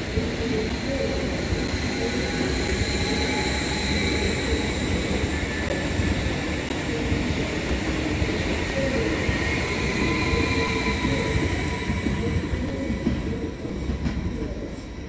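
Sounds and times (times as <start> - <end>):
electric train rumble and whine: 0.0 - 15.0.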